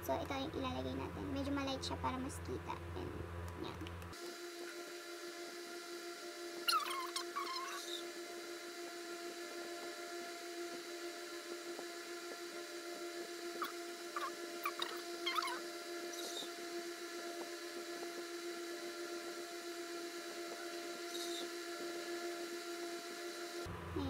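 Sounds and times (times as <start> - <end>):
small electric motor humming: 0.0 - 24.0.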